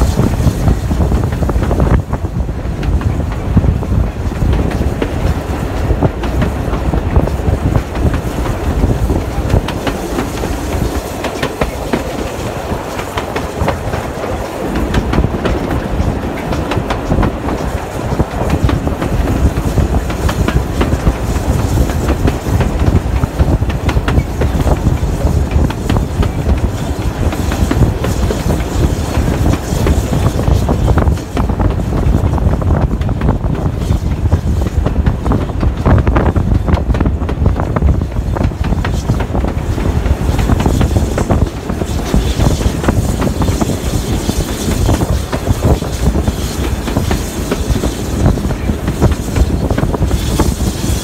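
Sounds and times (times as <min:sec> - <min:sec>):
train carriage rumble: 0:00.0 - 0:51.0
wheels clicking over rail joints: 0:00.0 - 0:51.0.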